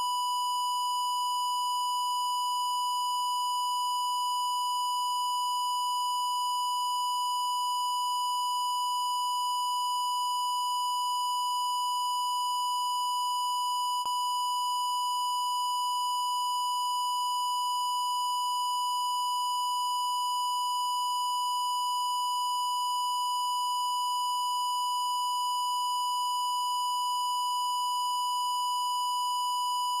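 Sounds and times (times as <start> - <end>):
sine-wave test tone: 0.0 - 30.0.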